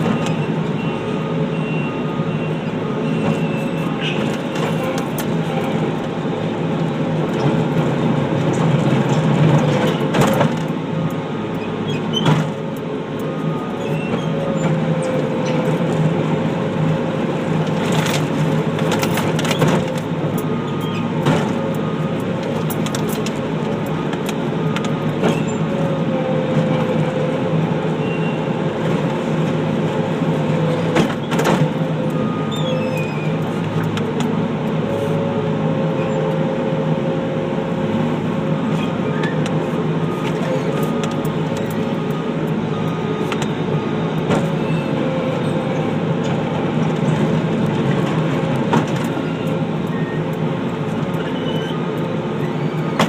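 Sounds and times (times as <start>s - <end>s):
loader engine running: 0.0s - 53.0s.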